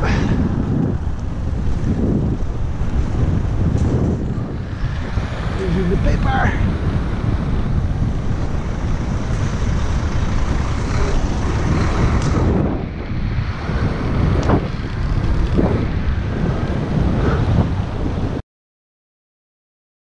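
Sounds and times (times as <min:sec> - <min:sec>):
wind rushing over microphone: 0:00.0 - 0:18.4.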